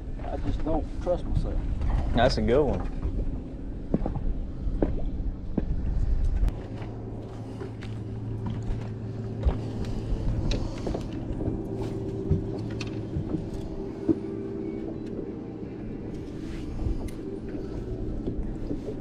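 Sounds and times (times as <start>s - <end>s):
knocks and clicks from boat: 0.0s - 19.0s
electric boat motor humming: 2.6s - 19.0s.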